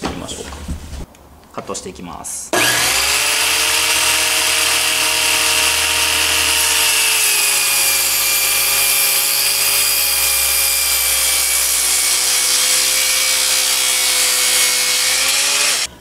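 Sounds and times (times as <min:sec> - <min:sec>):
circular saw cutting wood: 0:02.6 - 0:16.0.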